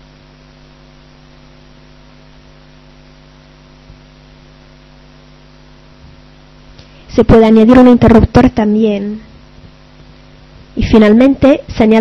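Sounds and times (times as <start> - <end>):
electrical mains hum: 0.0 - 12.0
faint hiss: 0.0 - 12.0.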